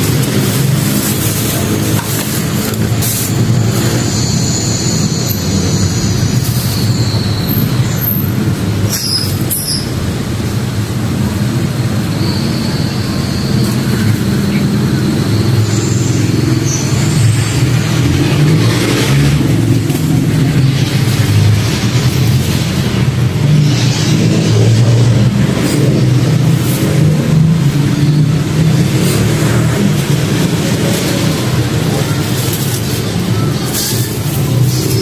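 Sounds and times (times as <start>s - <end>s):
engine rumbling: 0.0s - 35.0s.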